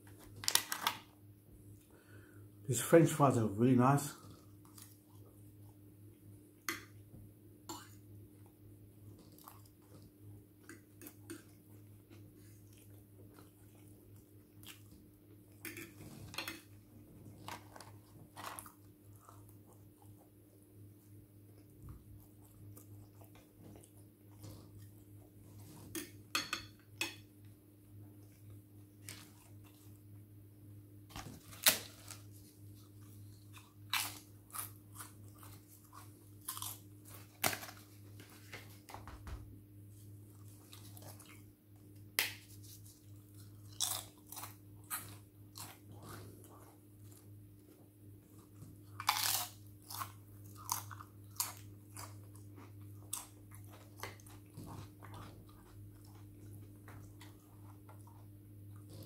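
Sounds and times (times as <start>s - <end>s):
steady low hum: 1.0s - 59.0s
person chewing and crunching food: 4.1s - 7.1s, 7.7s - 30.3s, 31.1s - 39.0s, 39.8s - 59.0s.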